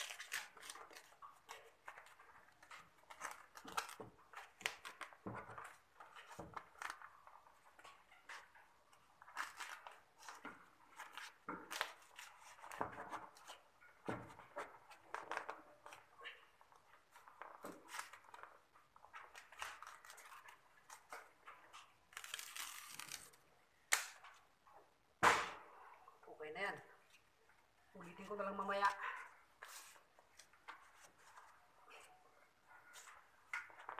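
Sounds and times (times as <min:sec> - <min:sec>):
rustling and crinkling of wrapping: 0:00.0 - 0:25.0, 0:27.0 - 0:33.9.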